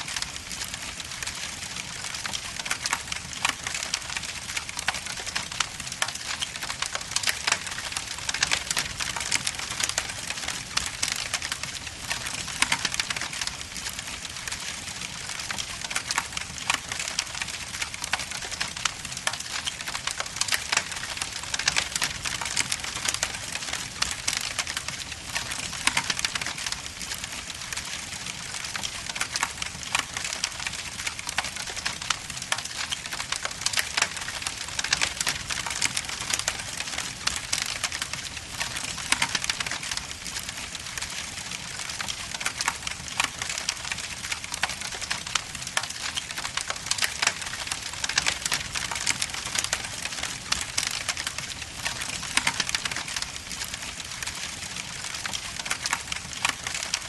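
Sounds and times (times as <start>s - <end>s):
wood logs crackling in fireplace: 0.0s - 57.0s.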